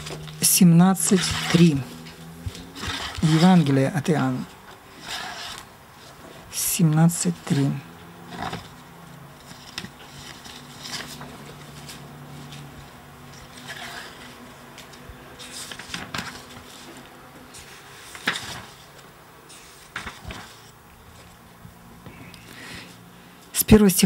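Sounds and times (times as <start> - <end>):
paper rustling: 0.0 - 21.4.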